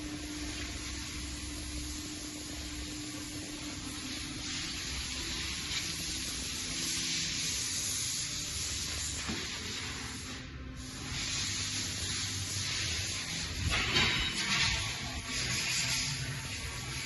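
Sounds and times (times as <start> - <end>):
machine hiss: 0.0 - 17.0.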